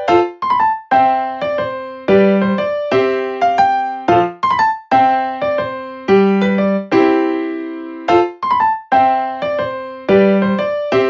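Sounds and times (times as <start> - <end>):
keyboard notes and chords: 0.0 - 11.0.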